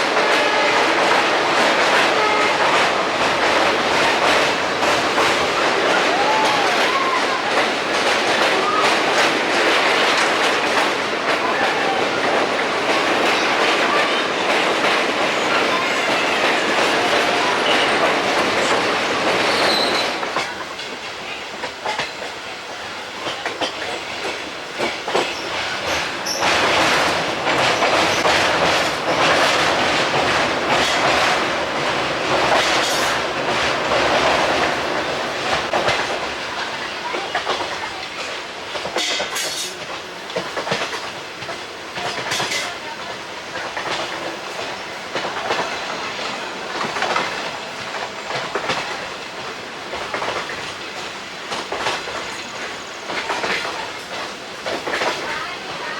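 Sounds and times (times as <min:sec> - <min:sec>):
train wheels clattering over rail joints: 0:00.0 - 0:22.5, 0:23.2 - 0:55.9.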